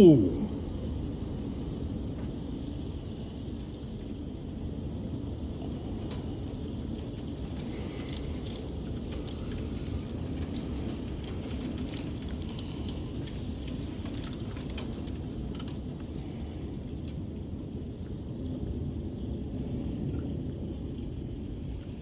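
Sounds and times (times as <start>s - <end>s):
storm wind and rain rushing: 0.0s - 22.0s.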